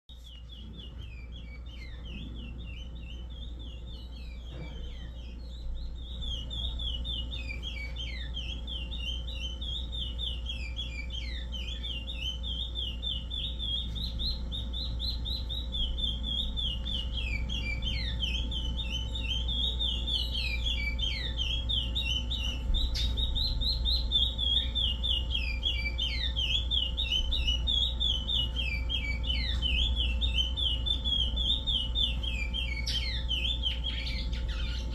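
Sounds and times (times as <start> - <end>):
finch singing: 0.1 - 34.9.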